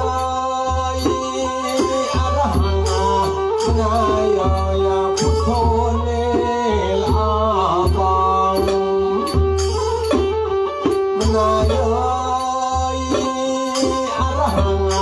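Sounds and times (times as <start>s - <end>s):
bowed fiddle melody: 0.0s - 15.0s
sharp percussion clicks: 0.0s - 15.0s.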